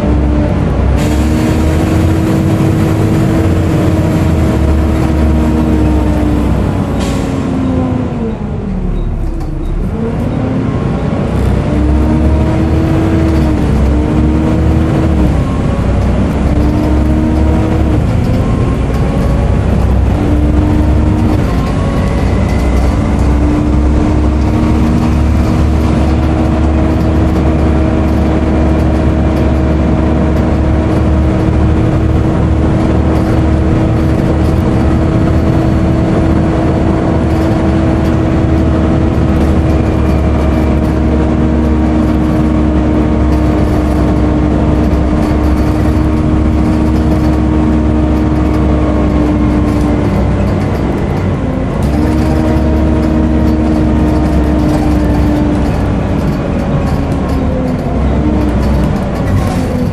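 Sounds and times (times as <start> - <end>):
diesel engine drone: 0.0 - 59.9
road noise: 0.0 - 59.9
engine cooling fan whine: 11.1 - 59.9.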